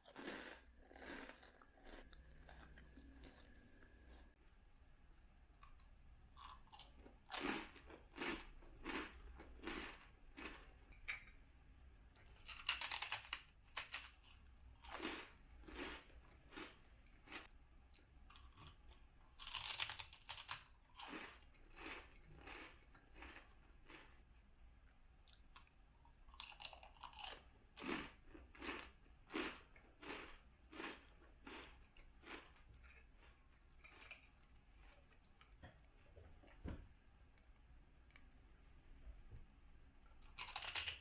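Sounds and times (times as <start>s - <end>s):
person chewing crunchy food: 0.0s - 4.4s, 5.6s - 11.4s, 12.3s - 24.3s, 25.3s - 35.6s, 40.1s - 41.0s.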